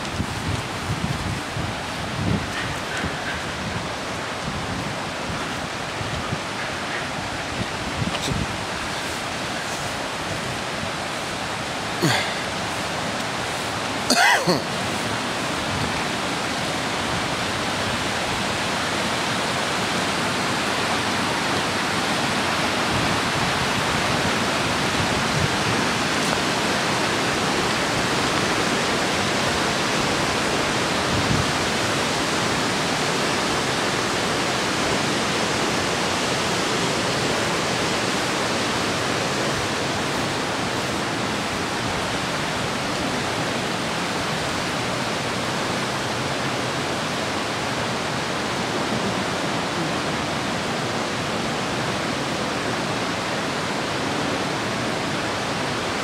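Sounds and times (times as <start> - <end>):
waterfall roaring in a cave: 0.0 - 56.0.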